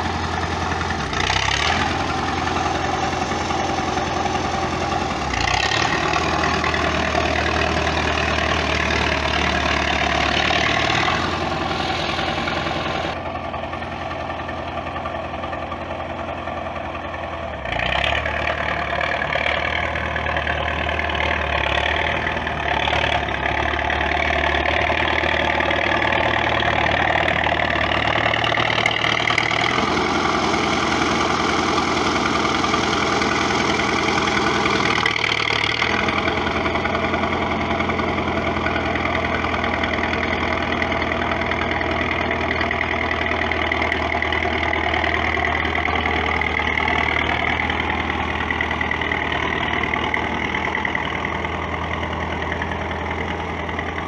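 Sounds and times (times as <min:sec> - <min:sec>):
crawler tractor engine running: 0:00.0 - 0:54.0.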